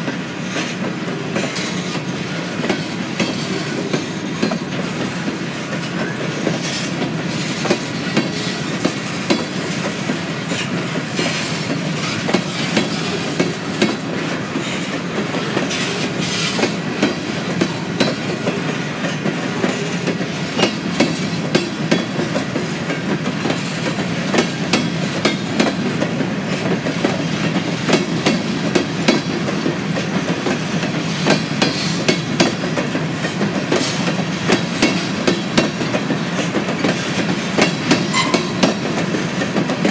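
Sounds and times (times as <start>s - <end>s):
freight train rumbling past: 0.0s - 39.9s
wheels clicking over rail joints: 0.5s - 39.9s.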